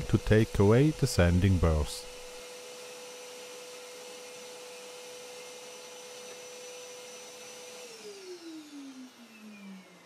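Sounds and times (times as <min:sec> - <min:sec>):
disc sander motor hum: 0:00.0 - 0:10.0.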